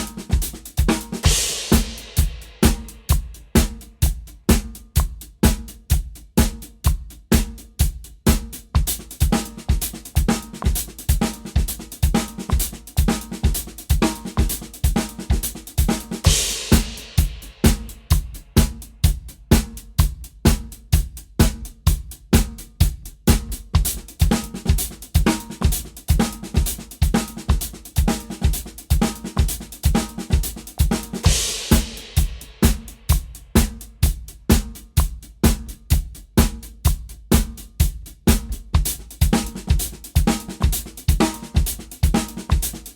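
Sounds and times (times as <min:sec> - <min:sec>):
drum kit groove: 0:00.0 - 0:42.9.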